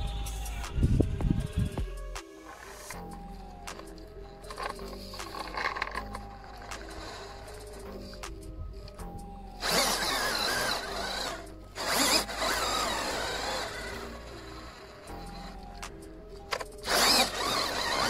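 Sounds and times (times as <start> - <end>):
background music: 0.0 - 18.0
electric motor whining: 2.6 - 8.9, 9.6 - 18.0.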